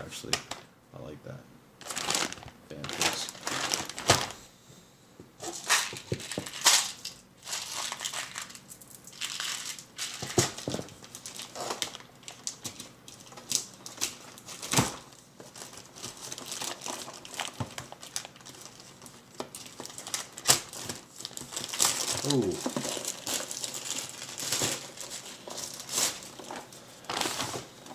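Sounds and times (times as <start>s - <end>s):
packaging crinkling and rustling: 1.8s - 4.4s, 5.4s - 27.9s.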